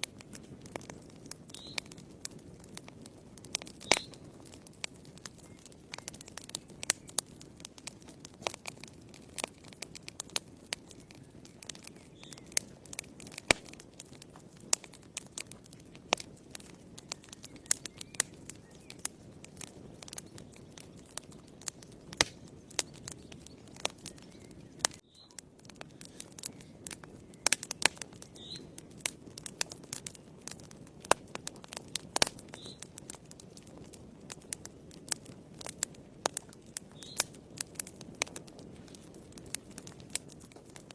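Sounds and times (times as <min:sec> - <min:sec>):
low rush of flame: 0:00.0 - 0:40.9
wood fire crackling and popping: 0:00.0 - 0:40.9.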